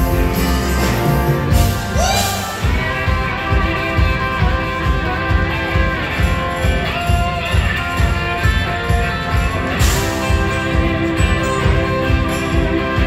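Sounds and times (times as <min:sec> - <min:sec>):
bass: 0:00.0 - 0:13.0
drum beat: 0:00.0 - 0:13.0
electric guitars: 0:00.0 - 0:13.0
keyboards: 0:00.0 - 0:13.0.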